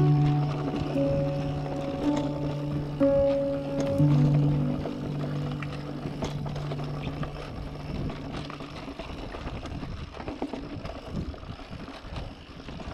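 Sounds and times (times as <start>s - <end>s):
bike clicking and rattling: 0.0s - 12.9s
bike tyres on dirt: 0.0s - 12.9s.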